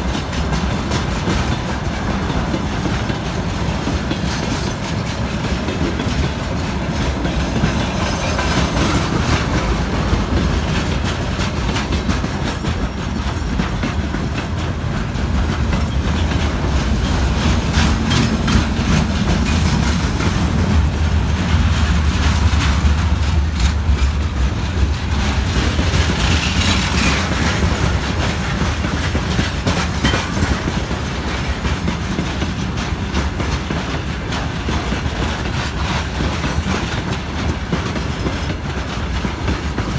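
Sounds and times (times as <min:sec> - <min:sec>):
low train rumble: 0:00.0 - 0:39.9
train wheels clicking over rail joints: 0:00.0 - 0:39.9.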